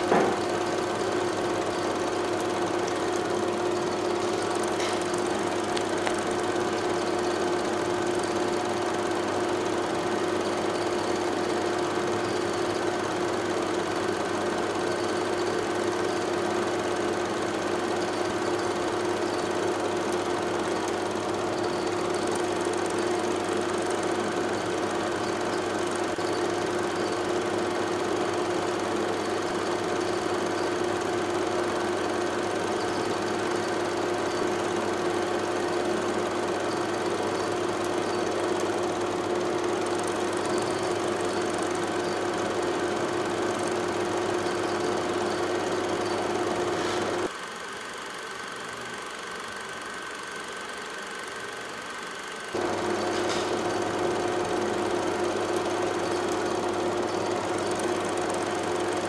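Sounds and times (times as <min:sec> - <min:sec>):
machine hum: 0:00.0 - 0:47.3, 0:52.5 - 0:59.0.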